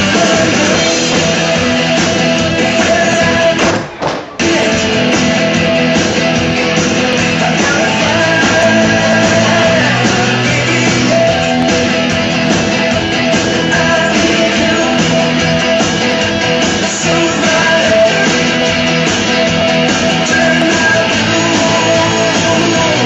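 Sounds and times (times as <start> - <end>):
country music with guitar: 0.0 - 3.6, 4.3 - 23.0.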